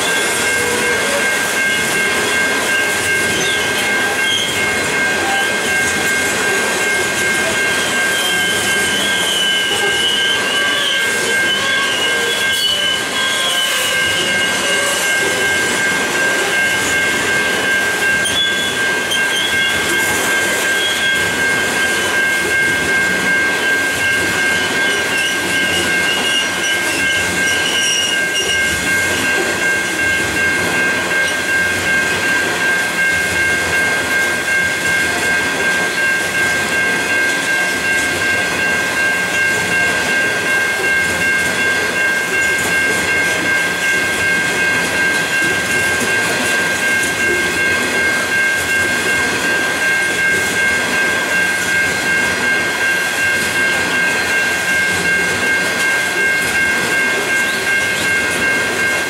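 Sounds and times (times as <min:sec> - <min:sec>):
high-pitched ringing tone: 0:00.0 - 0:59.0
train wheels rumbling on rails: 0:00.0 - 0:59.0.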